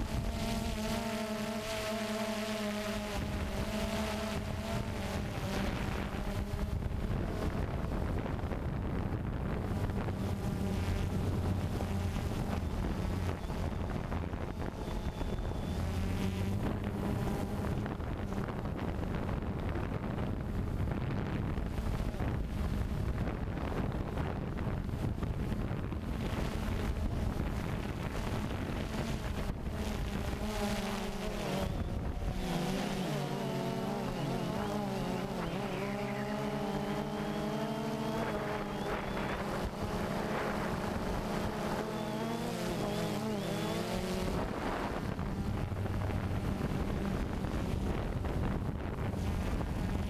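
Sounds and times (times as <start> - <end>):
drone motors buzzing: 0.0 - 50.0
wind on microphone: 0.0 - 50.0.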